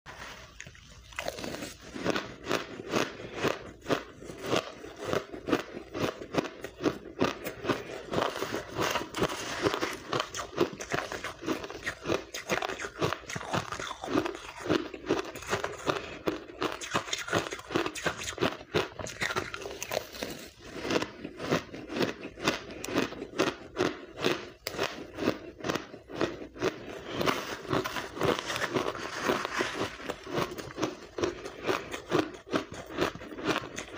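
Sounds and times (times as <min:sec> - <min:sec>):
ice being chewed: 0:00.1 - 0:33.9.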